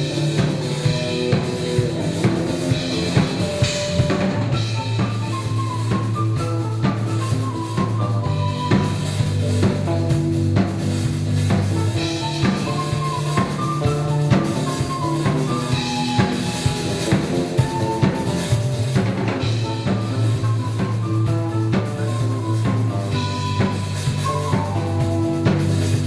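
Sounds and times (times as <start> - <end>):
drum kit beat: 0.0 - 26.0
rock band playing: 0.0 - 26.0.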